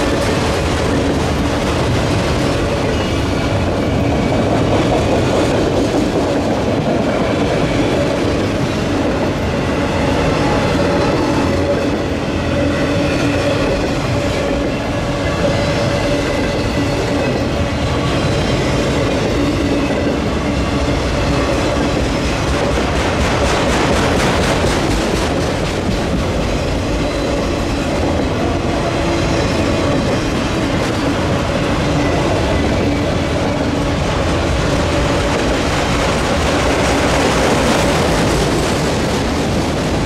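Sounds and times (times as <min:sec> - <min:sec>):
freight train wheels clattering: 0:00.0 - 0:40.0.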